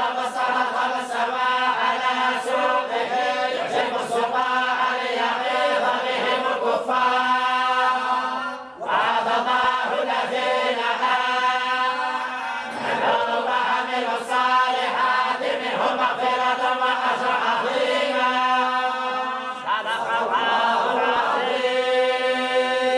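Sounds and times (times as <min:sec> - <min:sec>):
many voices chanting in unison: 0:00.0 - 0:22.9.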